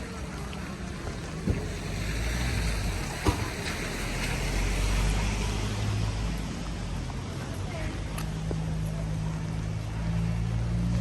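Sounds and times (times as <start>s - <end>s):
car passing on wet street: 0.0s - 11.0s.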